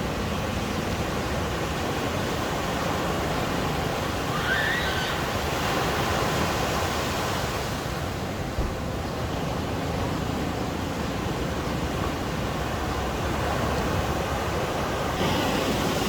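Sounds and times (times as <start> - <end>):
ocean surf breaking: 0.1 - 16.0.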